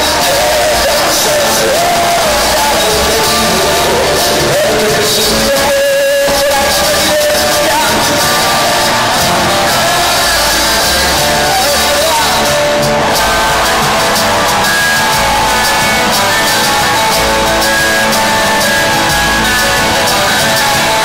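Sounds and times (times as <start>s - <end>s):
live rock band playing: 0.0s - 21.0s
man singing: 0.0s - 21.0s.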